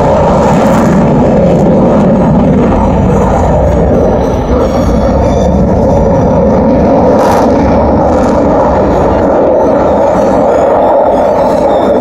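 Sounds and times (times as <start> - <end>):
jet engine flying overhead: 0.0 - 12.0.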